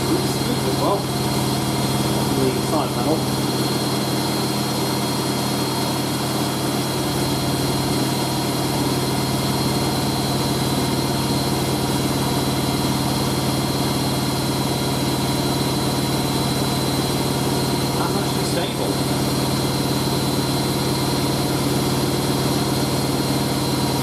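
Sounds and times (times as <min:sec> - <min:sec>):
washing machine spinning: 0:00.0 - 0:24.0.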